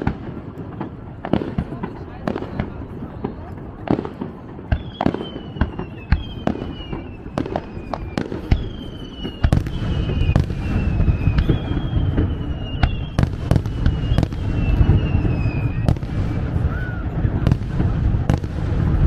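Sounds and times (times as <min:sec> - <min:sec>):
fireworks bangs: 0:00.0 - 0:19.0
whistling firework shells: 0:00.0 - 0:19.0.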